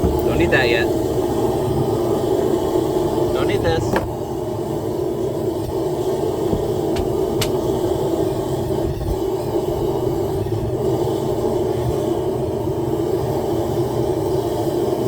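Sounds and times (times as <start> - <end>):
forge rushing hum: 0.0 - 15.0.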